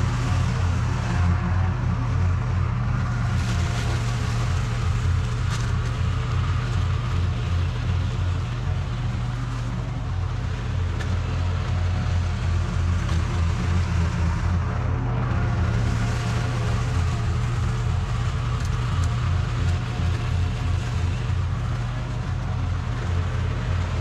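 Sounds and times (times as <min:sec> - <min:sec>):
lawn mower engine humming: 0:00.0 - 0:24.0.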